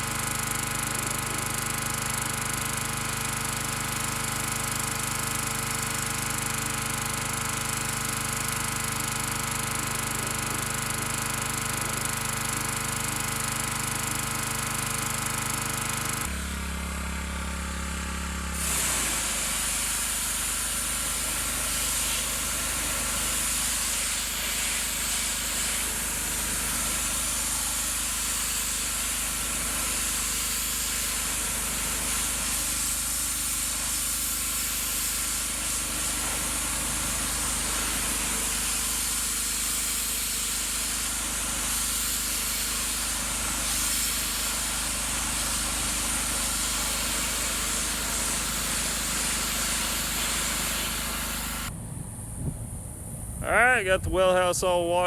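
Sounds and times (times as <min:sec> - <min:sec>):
high-pressure water spray hissing: 0:00.0 - 0:16.2, 0:18.6 - 0:51.7
pressure washer engine running: 0:00.0 - 0:51.8.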